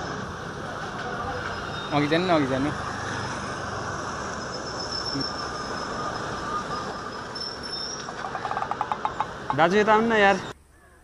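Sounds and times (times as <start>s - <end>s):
bus engine and road noise: 0.0s - 10.7s.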